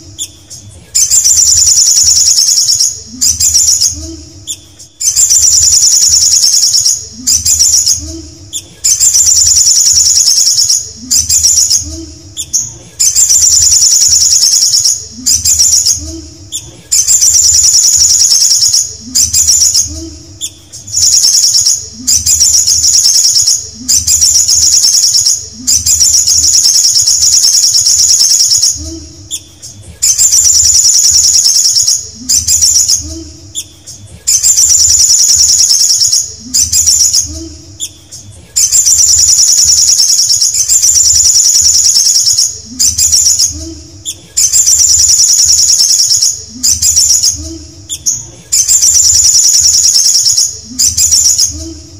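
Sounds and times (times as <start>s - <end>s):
bird trilling song: 0.0s - 51.9s.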